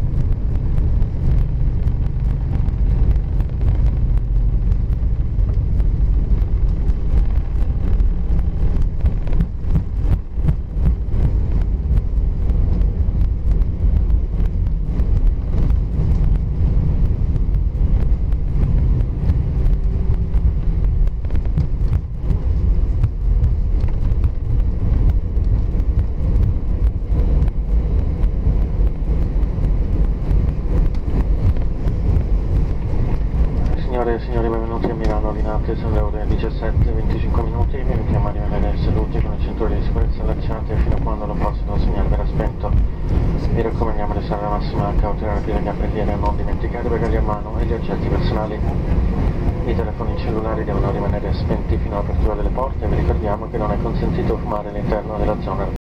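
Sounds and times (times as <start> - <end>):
low rumble of engines and wheels: 0.0 - 55.8.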